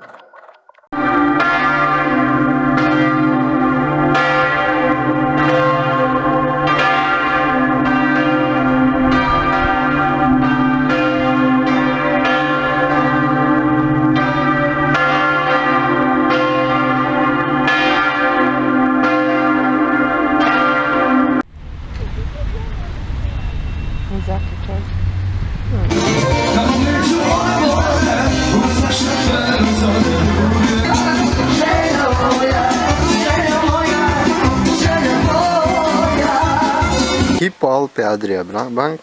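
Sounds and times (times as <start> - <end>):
church bells ringing: 1.0 - 21.5, 25.9 - 37.4.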